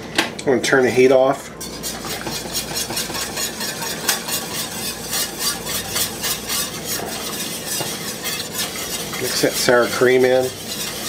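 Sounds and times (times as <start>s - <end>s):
wire whisk scraping a pan: 0.8s - 11.0s.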